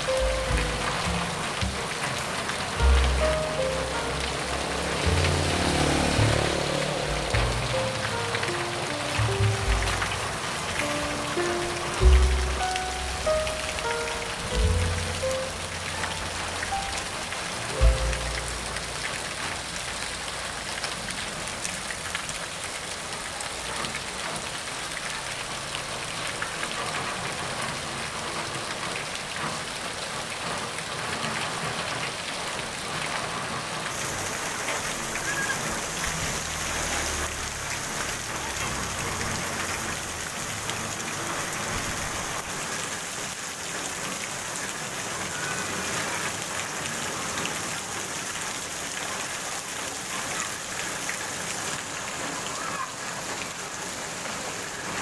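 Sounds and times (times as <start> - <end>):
heavy rain on asphalt: 0.0 - 55.0
runoff pouring off roof: 0.0 - 55.0.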